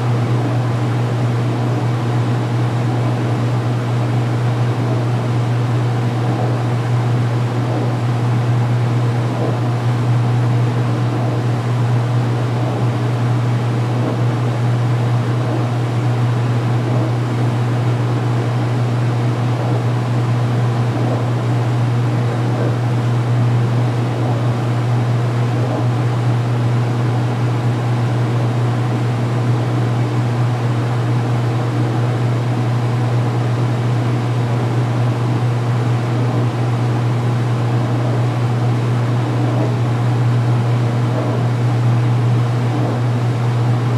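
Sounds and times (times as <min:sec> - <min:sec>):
washing machine spinning: 0:00.0 - 0:43.9.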